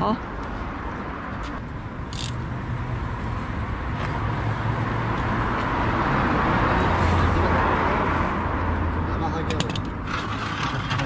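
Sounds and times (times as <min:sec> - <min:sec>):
road traffic rush: 0:00.0 - 0:11.0
vehicle passing: 0:00.6 - 0:11.0.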